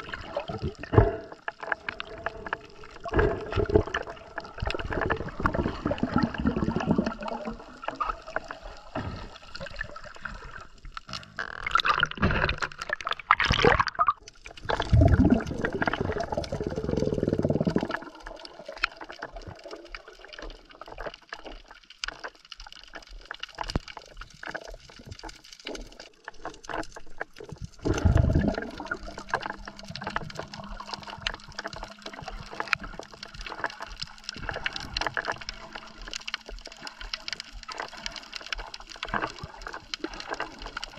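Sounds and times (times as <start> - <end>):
bubbling rushing water: 0.0 - 21.8, 22.7 - 40.9.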